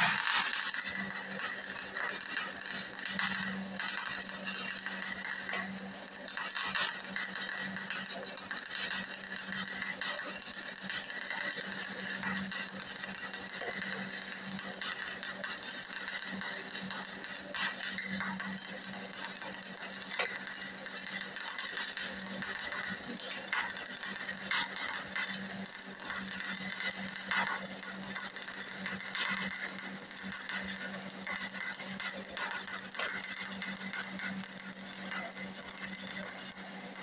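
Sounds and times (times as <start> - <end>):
welder hum: 0.0 - 37.0
welding arc crackling: 0.0 - 37.0.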